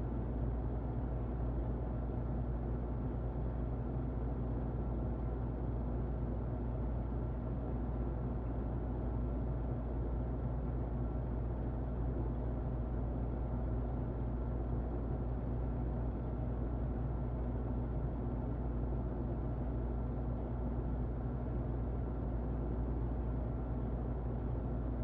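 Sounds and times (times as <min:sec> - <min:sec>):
muffled electric fan running: 0:00.0 - 0:25.0.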